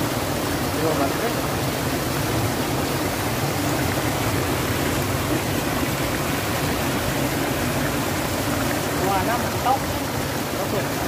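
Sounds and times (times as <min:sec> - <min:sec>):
spring water rushing: 0:00.0 - 0:11.0.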